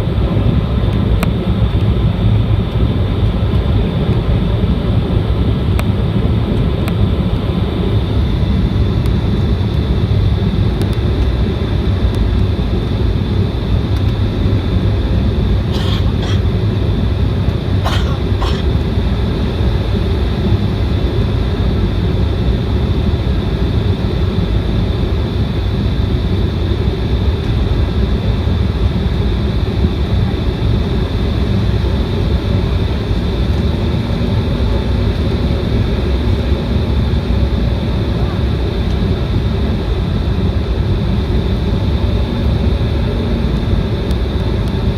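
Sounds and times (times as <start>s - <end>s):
jet cabin engine rumble: 0.0s - 44.9s
thin steady whine: 0.0s - 44.9s.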